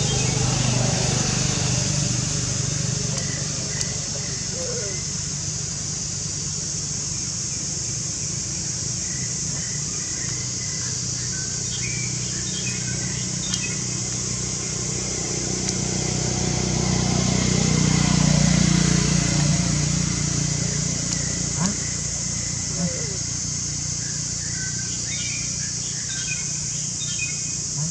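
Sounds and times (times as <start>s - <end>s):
vehicle engine approaching: 0.0s - 27.9s
steady high hiss: 1.3s - 27.9s.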